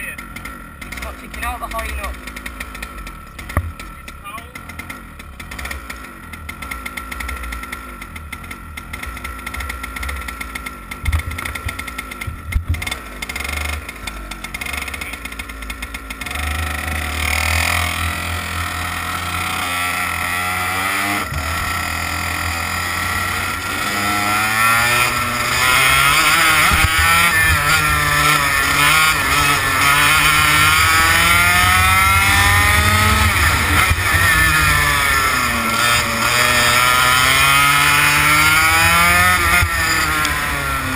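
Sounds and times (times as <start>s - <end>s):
two-stroke kart engine revving: 0.0s - 40.9s.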